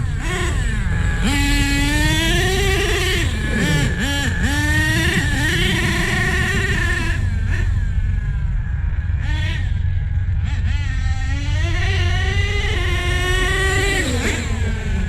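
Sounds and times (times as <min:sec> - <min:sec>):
nitro engine running under load: 0:00.0 - 0:15.0.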